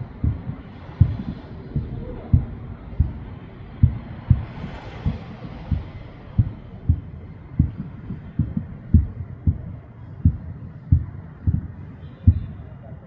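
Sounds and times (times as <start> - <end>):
distant fireworks booms: 0.0 - 12.7.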